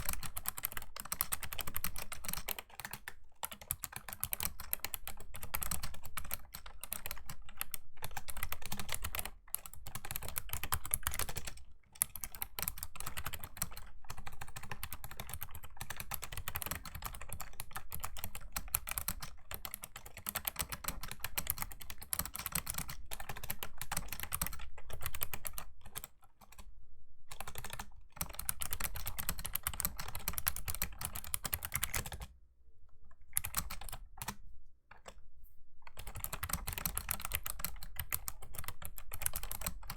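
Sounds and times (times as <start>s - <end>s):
fast keyboard typing: 0.0s - 26.6s, 27.3s - 32.3s, 33.3s - 35.2s, 35.8s - 39.9s.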